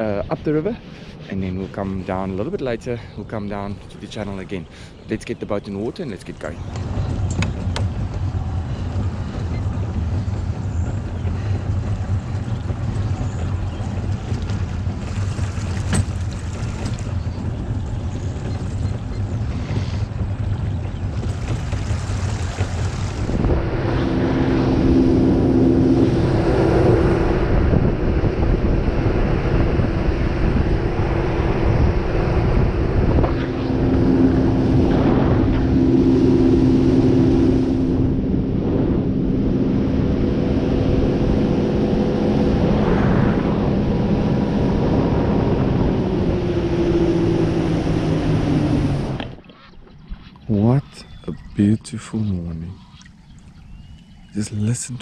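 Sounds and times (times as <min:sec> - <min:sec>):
motorboat engine running: 0:00.0 - 0:55.0
wind buffeting microphone: 0:00.0 - 0:55.0.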